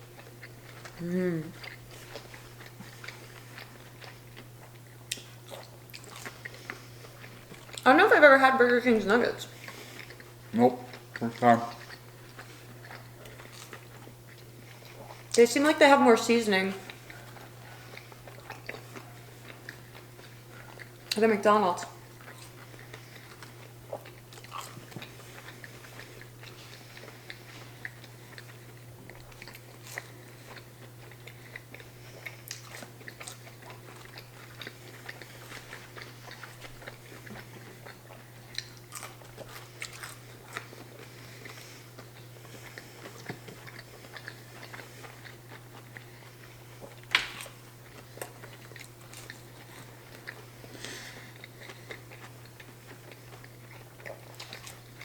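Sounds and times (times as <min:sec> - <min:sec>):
chewing and crunching food: 0:00.0 - 0:55.0
steady low hum: 0:00.0 - 0:55.0.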